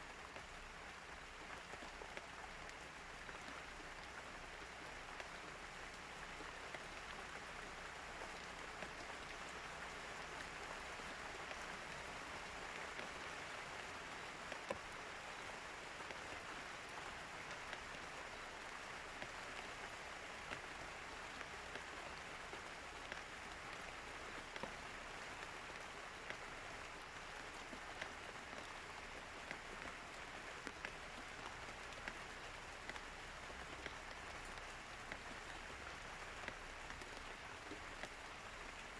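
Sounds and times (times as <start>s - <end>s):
steady rain patter: 0.0s - 38.9s
water drips ticking: 0.1s - 38.9s.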